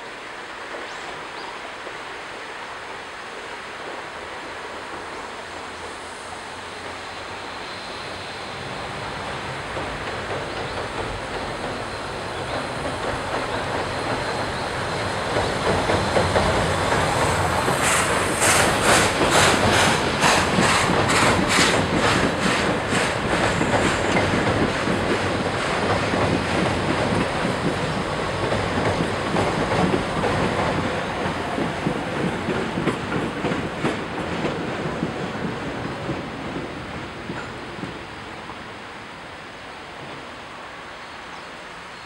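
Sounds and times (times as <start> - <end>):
train running past: 0.0 - 42.0.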